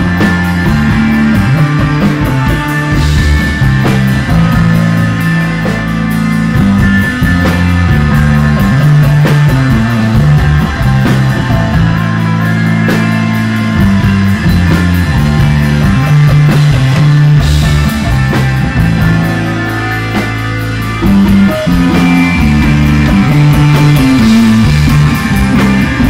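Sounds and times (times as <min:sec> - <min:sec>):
bass guitar low notes: 0:00.0 - 0:26.0
drum kit playing: 0:00.0 - 0:26.0
electric guitar: 0:00.0 - 0:26.0.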